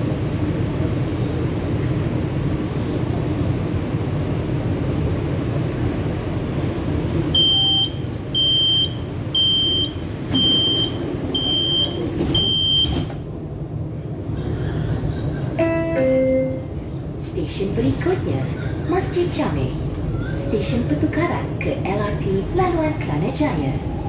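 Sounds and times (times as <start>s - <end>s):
light rail train rumbling: 0.0s - 24.0s.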